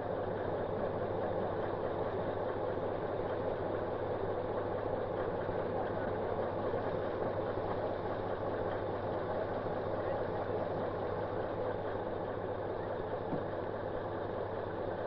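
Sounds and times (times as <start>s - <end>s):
rail vehicle running hum: 0.0s - 15.0s.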